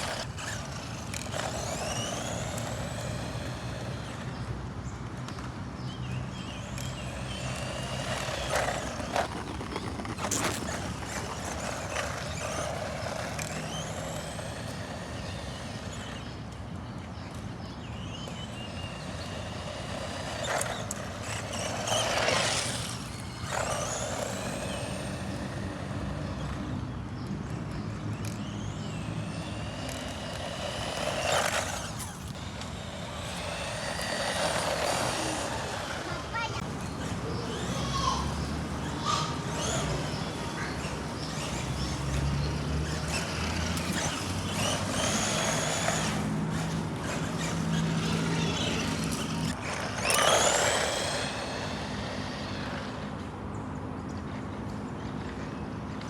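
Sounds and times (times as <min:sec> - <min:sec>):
electric motor whining: 0:00.0 - 0:53.5.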